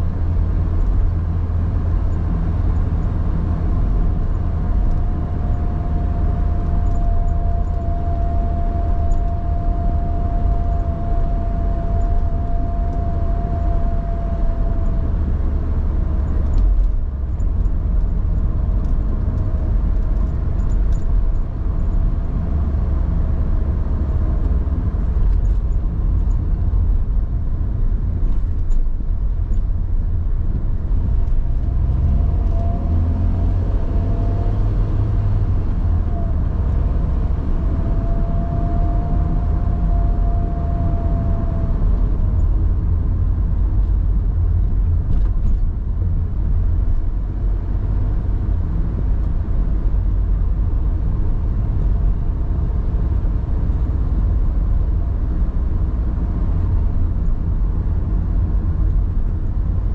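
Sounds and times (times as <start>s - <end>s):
car engine and road rumble: 0.0s - 59.9s
faint whine: 3.6s - 59.9s.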